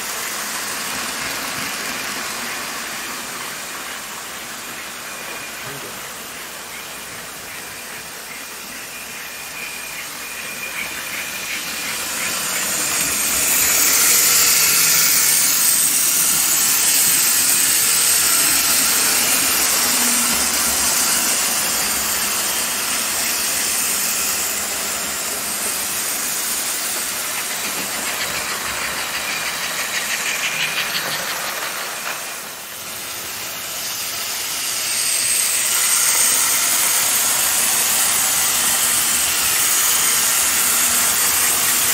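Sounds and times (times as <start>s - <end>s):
model trains whirring on track: 0.0s - 41.9s.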